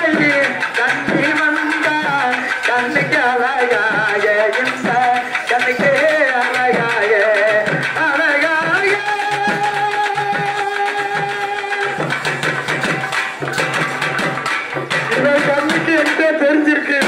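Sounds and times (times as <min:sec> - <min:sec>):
hand-played barrel drum: 0:00.0 - 0:17.0.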